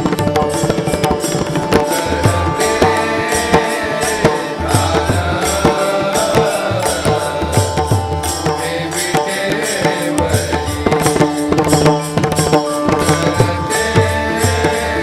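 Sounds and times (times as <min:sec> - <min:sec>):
hand drum rhythm: 0:00.0 - 0:15.0
held melodic tones: 0:00.0 - 0:15.0.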